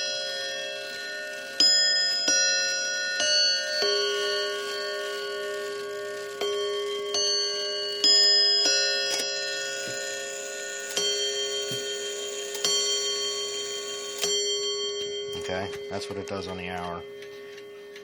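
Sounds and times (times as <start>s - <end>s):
clock chiming on tuned bells: 0.0s - 18.0s.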